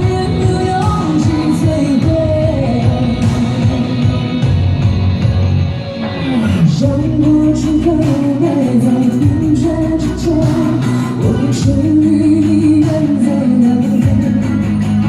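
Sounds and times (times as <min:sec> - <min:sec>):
woman singing pop ballad: 0:00.0 - 0:04.8, 0:06.0 - 0:15.0.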